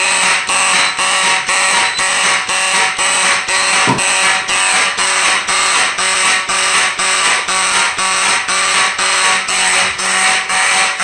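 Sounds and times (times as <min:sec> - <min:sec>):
raspy pulsing motor horn: 0:00.0 - 0:11.0.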